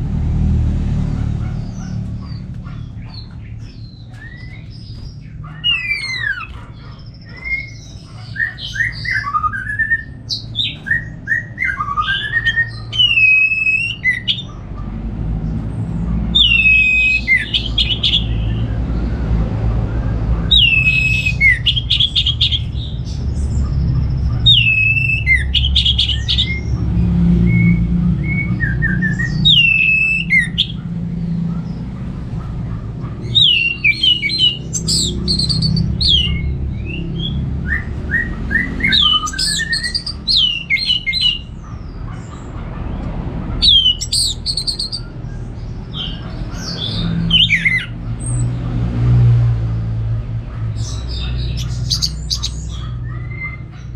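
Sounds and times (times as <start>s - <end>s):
thrush singing: 0.0s - 49.7s.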